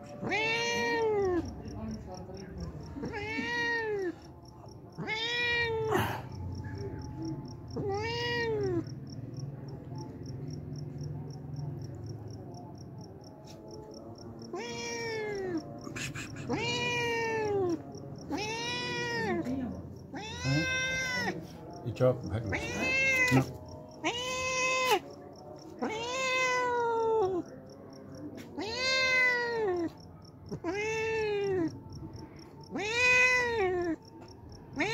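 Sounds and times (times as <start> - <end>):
cat meowing: 0.1 - 1.6, 2.8 - 12.0, 13.6 - 21.8, 22.4 - 27.7, 28.4 - 34.9
insects chirping: 0.7 - 34.9.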